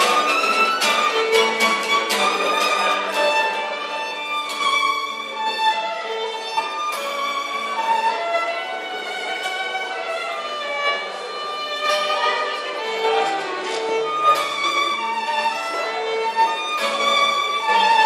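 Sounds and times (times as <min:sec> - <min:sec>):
fiddles playing melody: 0:00.0 - 0:18.0.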